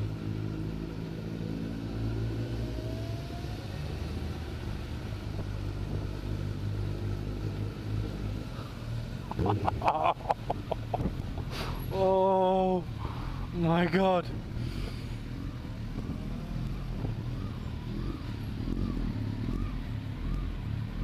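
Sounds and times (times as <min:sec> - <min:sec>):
motorcycle engine at low revs: 0:00.0 - 0:21.0.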